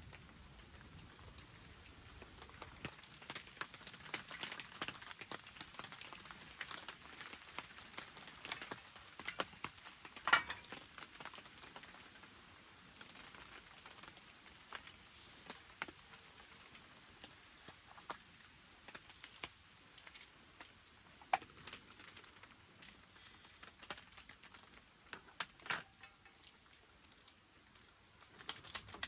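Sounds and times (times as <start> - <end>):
raindrops tapping on a tent: 0.0 - 29.0.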